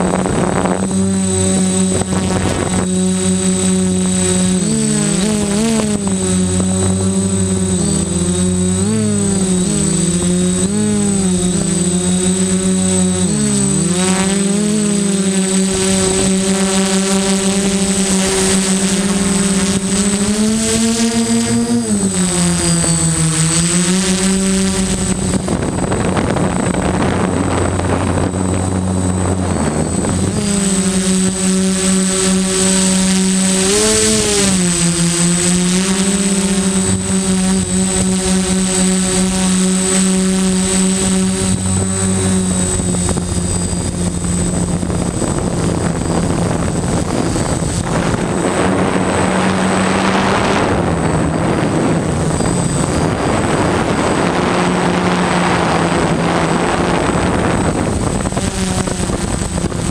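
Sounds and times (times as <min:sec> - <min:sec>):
drone propellers buzzing: 0:00.0 - 0:59.9
thin high whine: 0:00.0 - 0:59.9.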